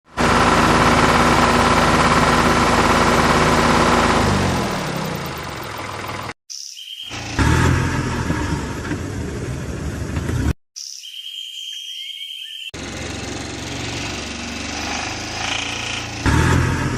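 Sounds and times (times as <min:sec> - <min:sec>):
vehicle engine running: 0:00.1 - 0:06.4, 0:07.1 - 0:10.6, 0:12.8 - 0:16.9.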